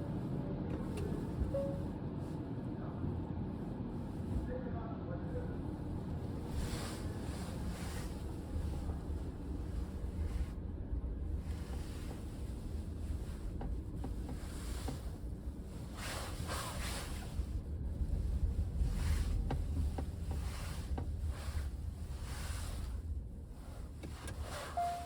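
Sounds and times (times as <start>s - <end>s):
road and tyre noise in car: 0.0s - 25.0s.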